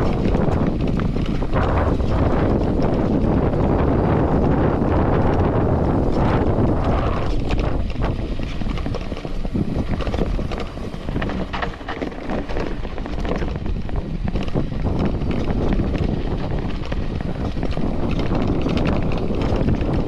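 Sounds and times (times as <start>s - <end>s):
bike rattling: 0.0s - 20.0s
tyres crunching over loose stones: 0.0s - 20.0s
wind buffeting microphone: 0.0s - 20.0s.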